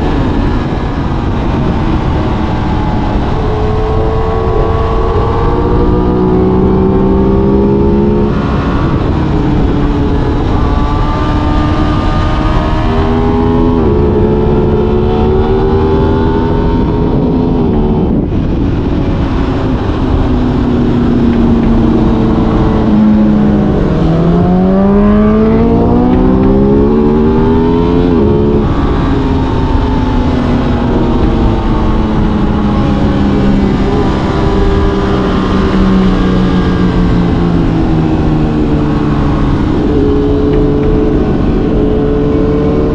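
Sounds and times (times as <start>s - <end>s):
motorcycle engine running: 0.0s - 42.9s
wind rush: 0.0s - 42.9s.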